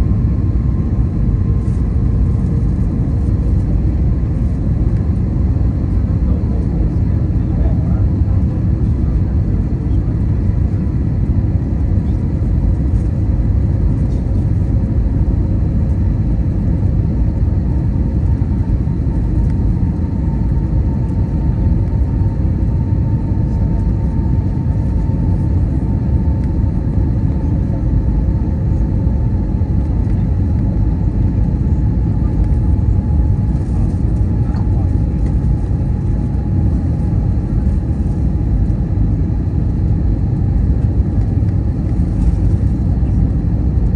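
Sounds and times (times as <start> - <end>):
aircraft cabin rumble: 0.0 - 43.9.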